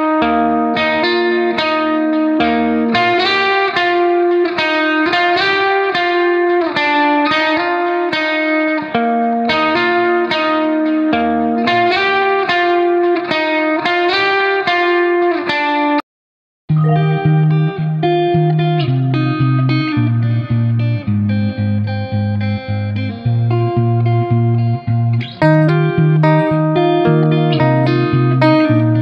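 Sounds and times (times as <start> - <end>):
guitar picking a melody: 0.0 - 16.0, 16.7 - 29.0.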